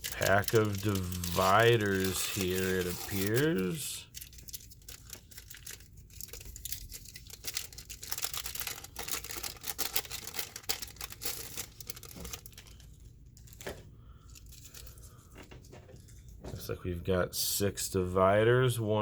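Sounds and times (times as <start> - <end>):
wrapping torn and crinkled: 0.0 - 16.4.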